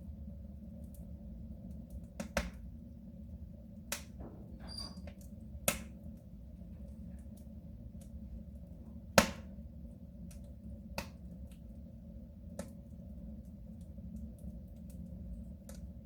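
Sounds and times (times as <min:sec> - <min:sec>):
stove low rumble: 0:00.0 - 0:16.0
wood fire crackling and popping: 0:00.5 - 0:02.9, 0:03.7 - 0:16.0.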